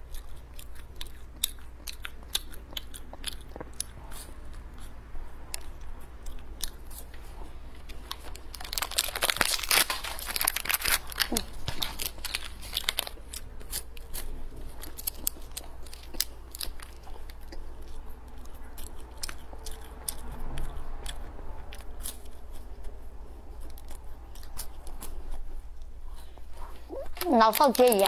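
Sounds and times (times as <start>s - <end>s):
chewing crunchy snack: 0.0s - 28.0s
low steady hum: 0.0s - 28.0s.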